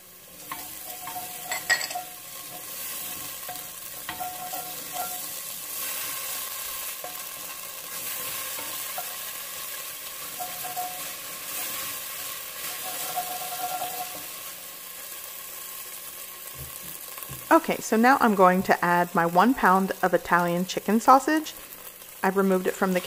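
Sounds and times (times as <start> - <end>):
onions and garlic sizzling in oil: 0.0 - 23.0.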